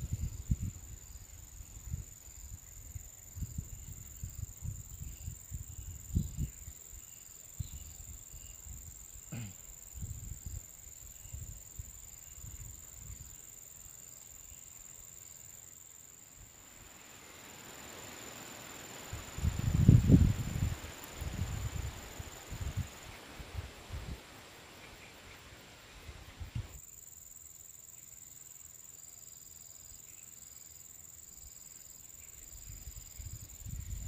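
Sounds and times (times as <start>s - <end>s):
rustling hiss: 0.0s - 34.0s.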